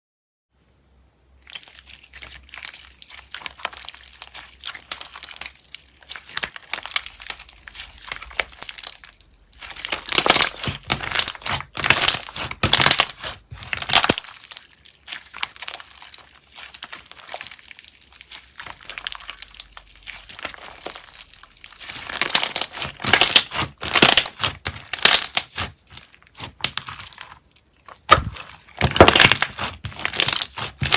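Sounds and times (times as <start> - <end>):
slime crackling and popping: 1.4 - 30.9.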